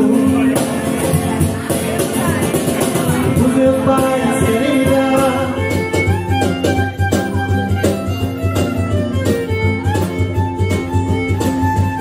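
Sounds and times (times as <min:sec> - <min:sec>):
cajon beat: 0:00.0 - 0:12.0
strummed acoustic guitar: 0:00.0 - 0:12.0
violin melody: 0:02.2 - 0:12.0.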